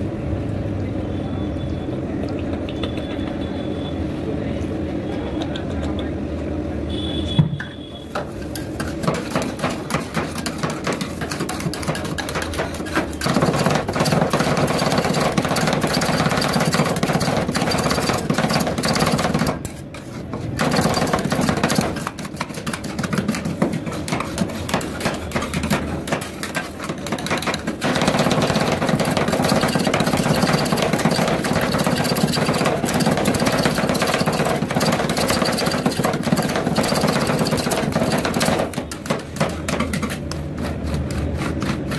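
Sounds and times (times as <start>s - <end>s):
metal spatulas chopping on steel plate: 8.2s - 41.9s.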